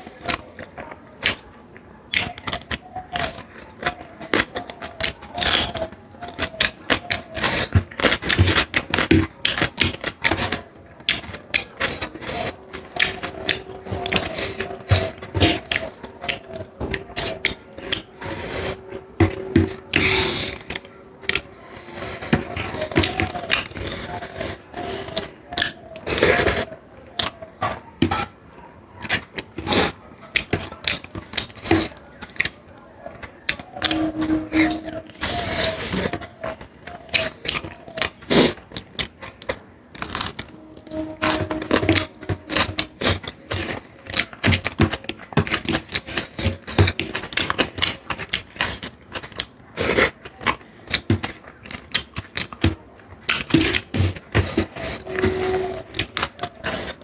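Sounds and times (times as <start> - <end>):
chewing and mouth smacking: 0.0 - 57.0.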